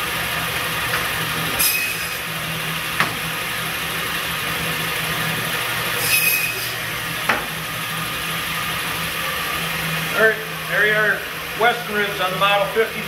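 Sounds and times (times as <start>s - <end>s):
band saw humming: 0.0s - 13.0s.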